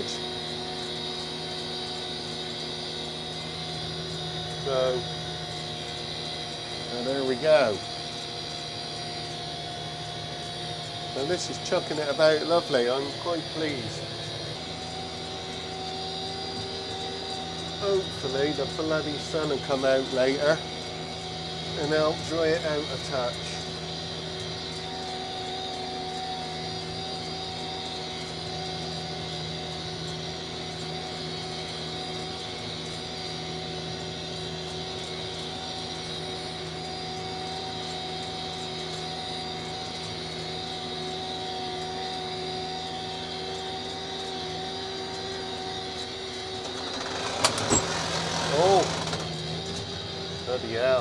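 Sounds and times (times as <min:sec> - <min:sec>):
constant mechanical whine: 0:00.0 - 0:51.0
tractor engine droning: 0:00.0 - 0:51.0.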